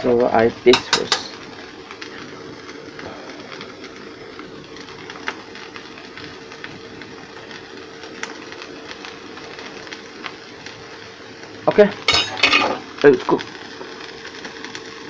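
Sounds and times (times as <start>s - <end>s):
light crackles: 0.0s - 15.0s
stove humming and hissing: 0.0s - 15.0s.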